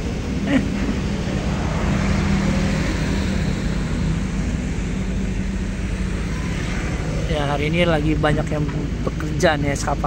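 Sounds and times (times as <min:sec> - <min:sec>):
diesel engine drone: 0:00.0 - 0:10.0.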